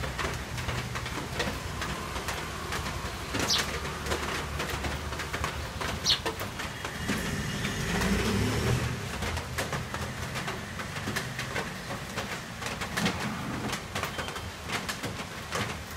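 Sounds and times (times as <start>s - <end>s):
rain falling: 0.0s - 15.9s.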